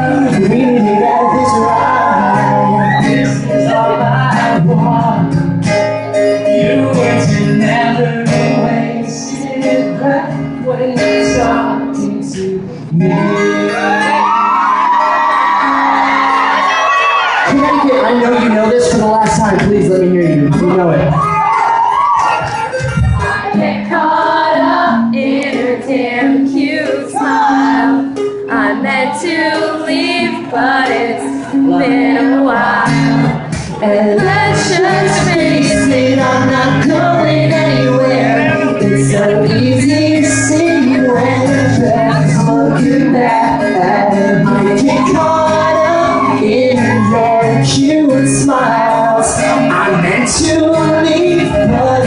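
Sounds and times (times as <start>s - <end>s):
voices singing: 0.0s - 21.0s, 22.3s - 52.0s
live rock band playing: 0.0s - 24.9s, 30.9s - 52.0s.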